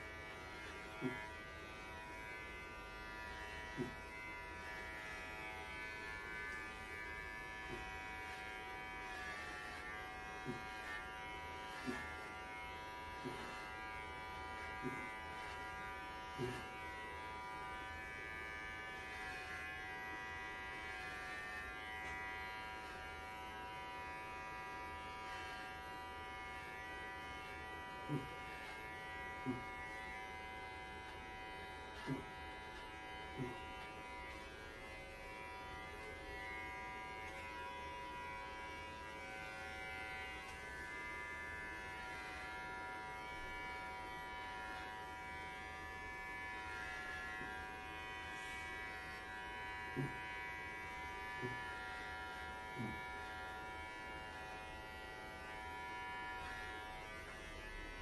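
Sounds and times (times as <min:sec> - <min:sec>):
electric clippers buzzing: 0:00.0 - 0:58.0.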